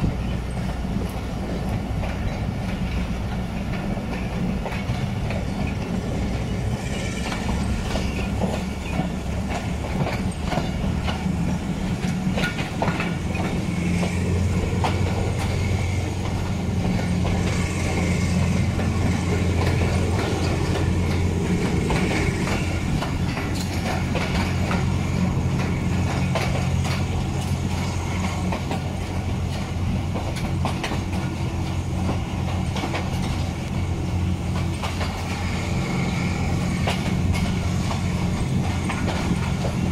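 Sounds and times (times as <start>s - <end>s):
low train running drone: 0.0s - 39.9s
wheels clicking over rail joints: 0.0s - 39.9s.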